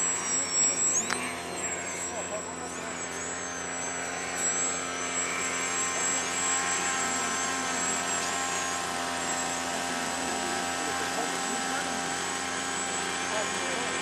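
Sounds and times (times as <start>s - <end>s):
model plane motor whining: 0.0s - 14.0s.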